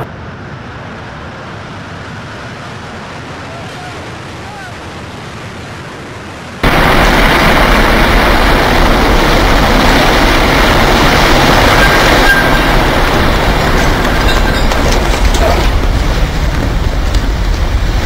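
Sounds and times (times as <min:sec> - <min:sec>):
building collapsing roar: 0:00.0 - 0:18.0.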